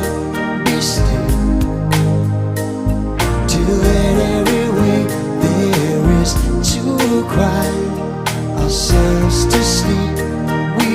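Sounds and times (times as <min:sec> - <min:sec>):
song playing: 0:00.0 - 0:10.9.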